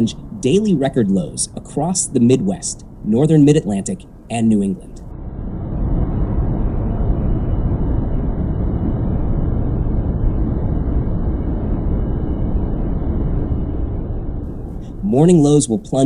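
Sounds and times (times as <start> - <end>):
loud low rumbling: 0.0 - 16.0.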